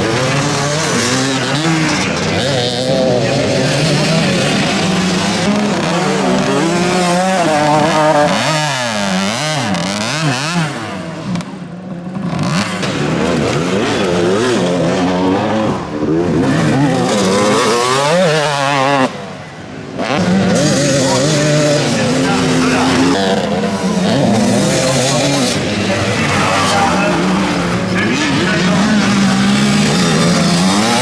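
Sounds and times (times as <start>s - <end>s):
motocross bikes racing past: 0.0s - 31.0s.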